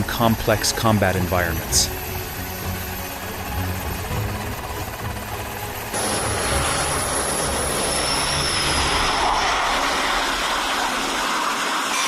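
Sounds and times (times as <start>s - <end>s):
jet engine running: 0.0s - 12.0s.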